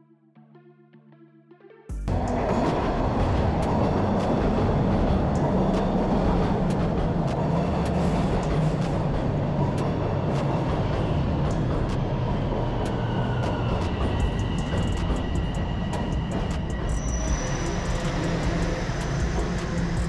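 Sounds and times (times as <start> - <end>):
train wheels rushing on rails: 2.1 - 20.0.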